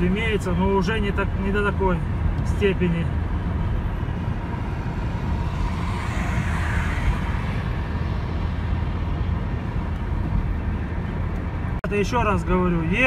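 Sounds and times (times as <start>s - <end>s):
car engine: 0.0s - 13.0s
tyres on wet road: 0.0s - 13.0s.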